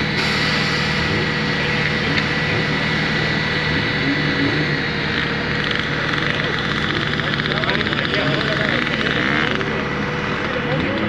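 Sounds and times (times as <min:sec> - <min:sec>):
mechanical drone: 0:00.0 - 0:11.0.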